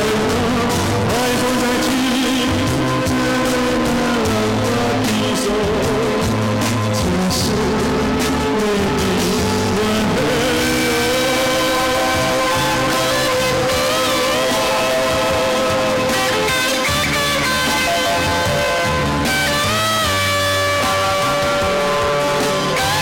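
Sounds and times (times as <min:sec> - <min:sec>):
instrumental accompaniment with bass: 0:00.0 - 0:23.0
man singing into a microphone: 0:00.0 - 0:23.0.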